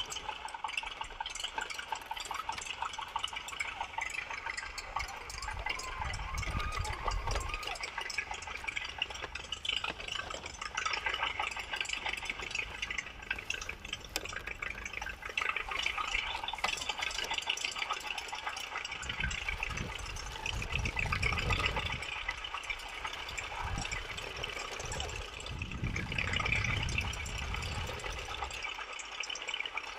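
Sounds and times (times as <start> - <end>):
toy tyres rolling through wet mud: 0.0 - 29.9.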